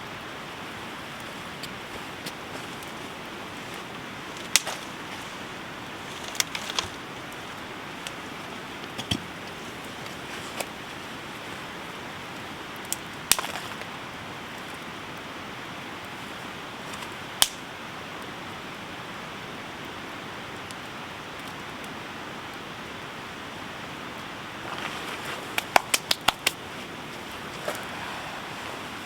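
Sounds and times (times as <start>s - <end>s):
campfire popping: 0.0s - 29.0s
heavy rain falling: 0.0s - 29.0s.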